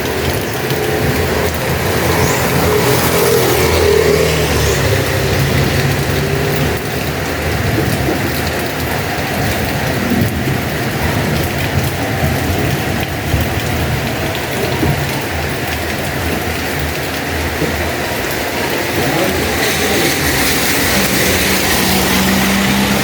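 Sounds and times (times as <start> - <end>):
heavy rain falling: 0.0 - 23.0
passing vehicle engine: 0.0 - 23.0.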